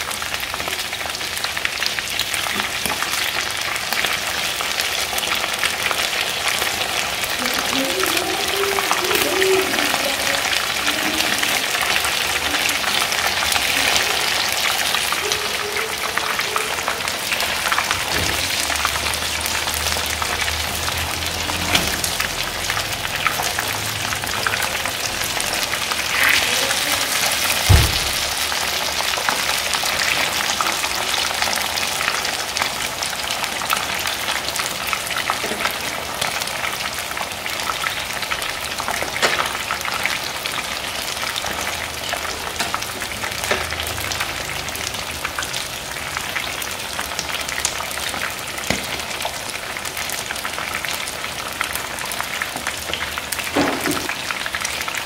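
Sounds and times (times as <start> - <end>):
chicken frying in hot oil: 0.0 - 55.0.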